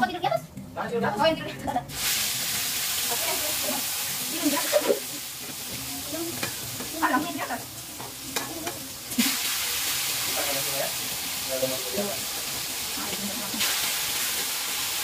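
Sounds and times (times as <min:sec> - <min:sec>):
food sizzling in hot oil: 0:01.9 - 0:15.0.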